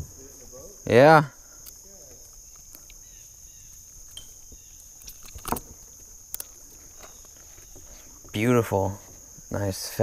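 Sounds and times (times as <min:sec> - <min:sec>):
high-pitched insect chirring: 0:00.0 - 0:10.0.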